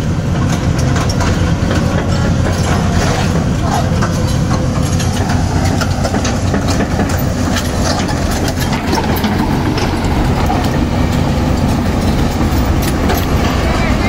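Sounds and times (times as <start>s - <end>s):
diesel engine running: 0.0s - 14.0s
steel tracks clanking: 0.0s - 14.0s.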